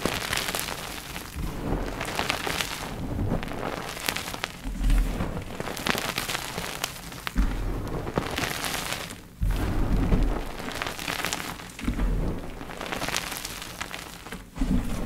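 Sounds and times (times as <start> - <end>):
crackle of crumbling chalk: 0.0 - 15.0.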